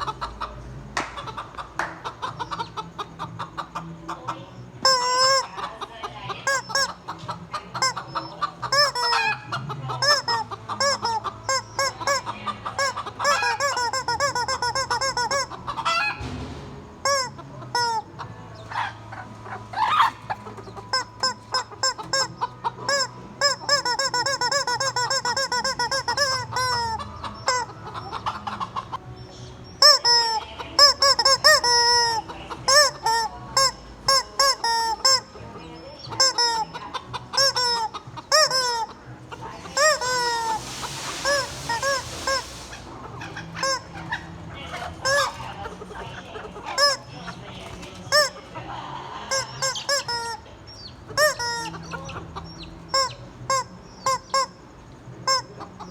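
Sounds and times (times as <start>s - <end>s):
chickens squawking and clucking: 0.0s - 55.9s
squeaky rubber chicken toy: 2.2s - 16.4s, 17.0s - 29.0s, 29.7s - 55.9s.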